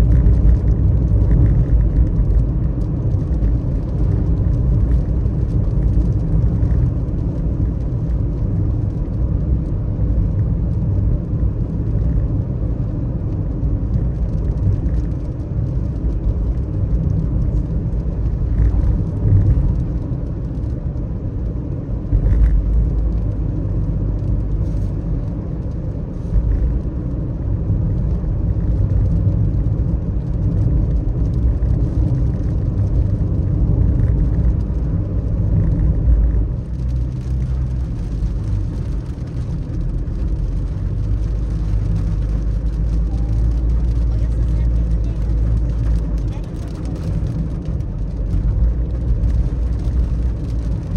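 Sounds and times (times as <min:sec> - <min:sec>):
car driving on wet road: 0:00.0 - 0:50.9.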